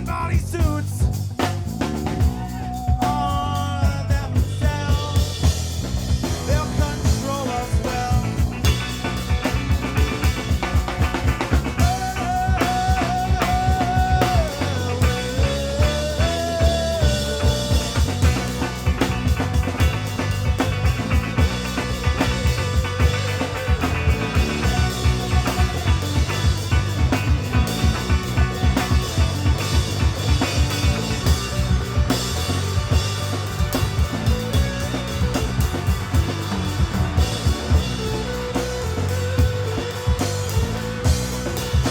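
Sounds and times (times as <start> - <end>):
driving drum beat: 0.0 - 41.9
live band playing: 0.8 - 41.9.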